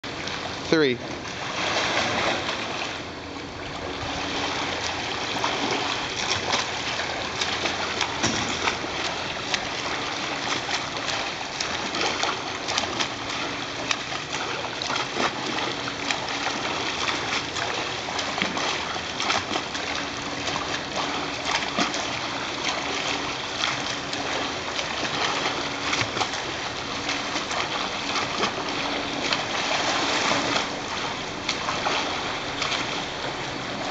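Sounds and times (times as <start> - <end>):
swimmer splashing in pool: 0.1 - 33.9.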